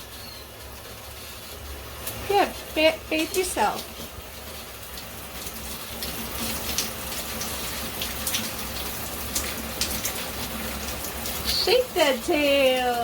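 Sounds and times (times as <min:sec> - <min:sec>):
shower water spraying: 0:00.0 - 0:13.0.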